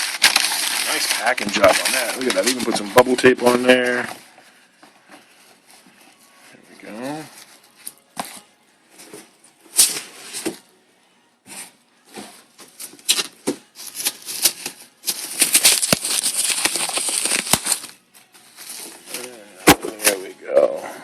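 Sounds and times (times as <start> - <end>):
plastic packing rustling and crinkling: 0.0 - 8.2, 11.5 - 20.3.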